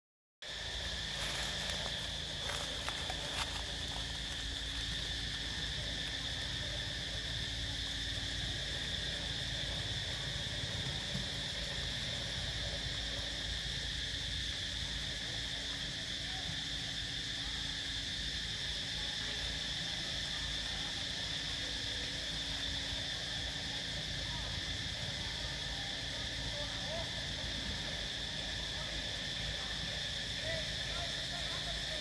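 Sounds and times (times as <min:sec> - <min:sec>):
forest insects droning: 0:00.4 - 0:32.0.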